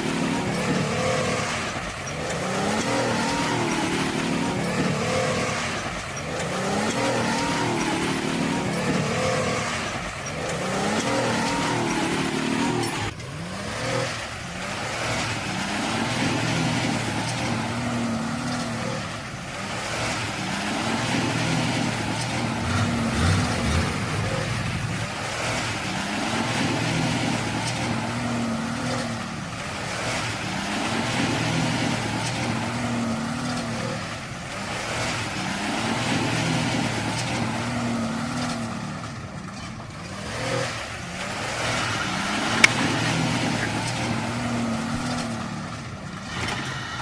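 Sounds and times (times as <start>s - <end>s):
truck engine revving: 0.0s - 47.0s.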